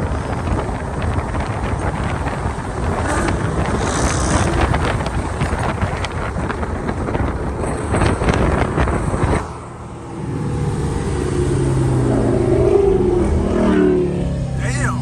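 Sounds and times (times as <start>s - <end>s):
moving car noise: 0.0s - 15.0s
wind buffeting microphone: 0.0s - 15.0s
car engine accelerating: 0.5s - 15.0s.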